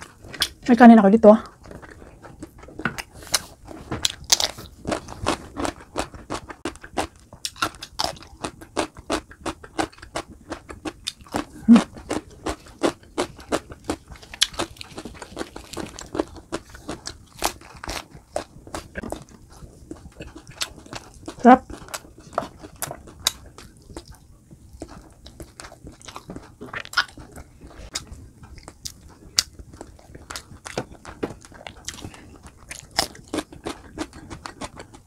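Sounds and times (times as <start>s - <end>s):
chewing and crunching food: 0.0s - 35.0s.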